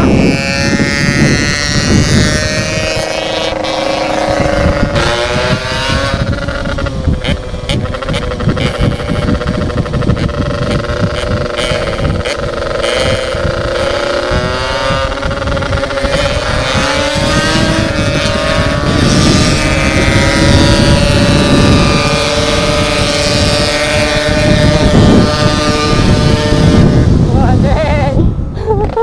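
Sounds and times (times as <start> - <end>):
two-stroke motorcycle engine revving: 0.0 - 28.2
wind buffeting microphone: 0.0 - 29.0.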